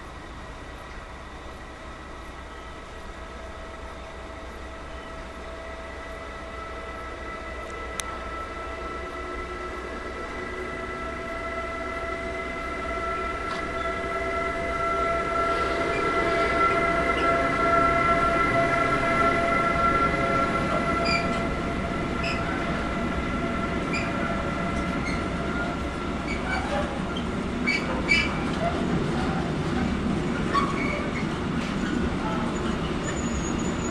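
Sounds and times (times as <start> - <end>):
train rumble: 0.0 - 33.9
train whine: 0.0 - 33.9.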